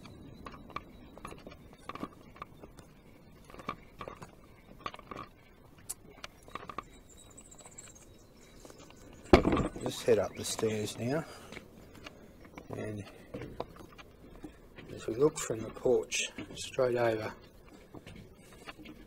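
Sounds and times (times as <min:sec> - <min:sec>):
footsteps on wooden porch: 0:00.0 - 0:19.0.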